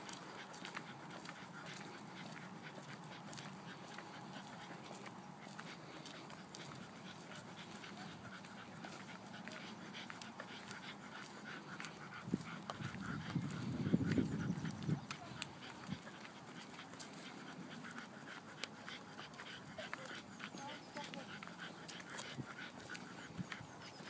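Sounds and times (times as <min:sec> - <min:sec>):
dogs panting: 0:00.0 - 0:24.0.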